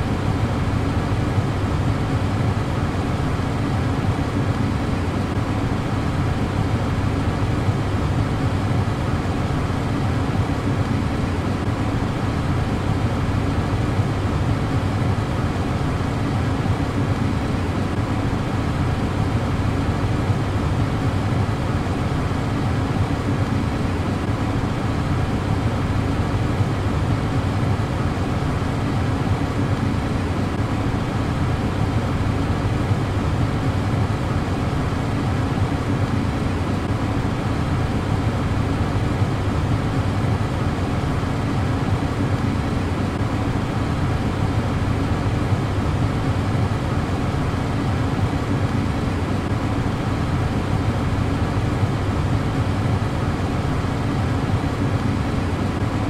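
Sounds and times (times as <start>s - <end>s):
car ventilation fan blowing: 0.0s - 56.0s.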